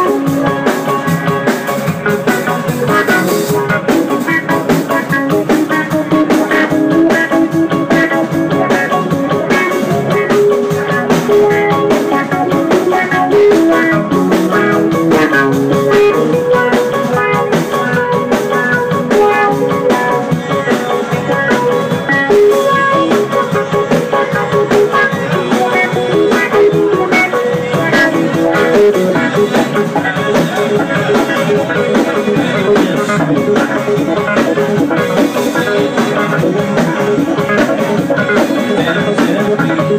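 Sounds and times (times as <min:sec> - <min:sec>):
drums: 0:00.0 - 0:39.9
electric guitar: 0:00.0 - 0:39.9
keyboard: 0:00.0 - 0:39.9.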